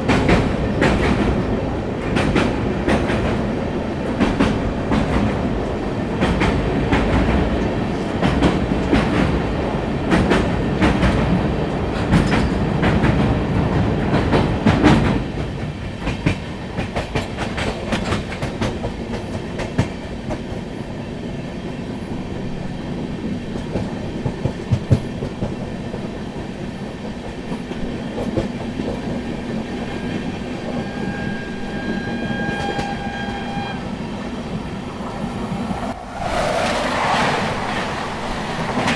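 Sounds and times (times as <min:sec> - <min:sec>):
train wheels clickety-clack: 0:00.0 - 0:38.9.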